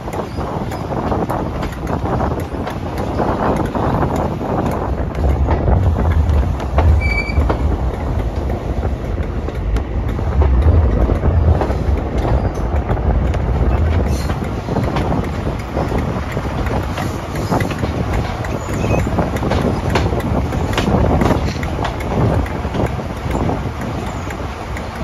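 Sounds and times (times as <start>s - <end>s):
train low rumble: 0.0s - 25.0s
wheels clattering over rails: 0.0s - 25.0s.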